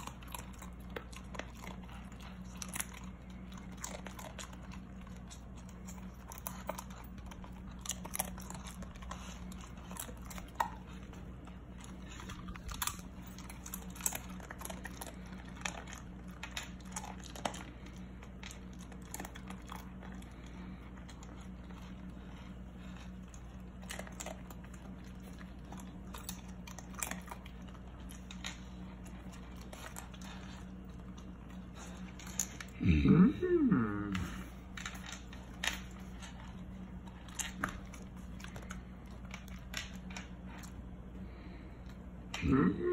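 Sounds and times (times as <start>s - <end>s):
dog crunching chips: 0.0s - 32.9s, 34.2s - 42.6s
faint low hum: 0.0s - 42.9s.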